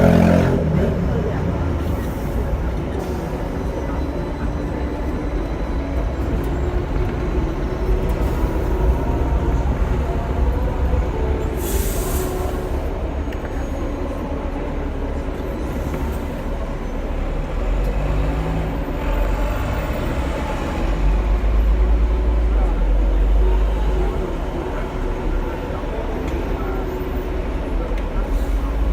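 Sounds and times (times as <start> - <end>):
tram wheels rumbling: 0.0 - 28.9.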